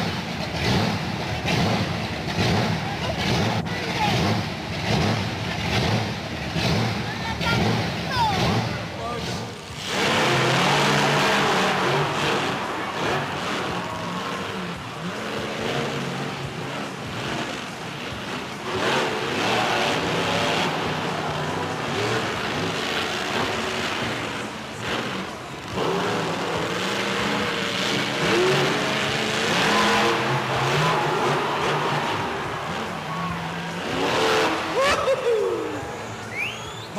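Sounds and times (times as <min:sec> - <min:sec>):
monster truck engine revving: 0:00.0 - 0:36.9.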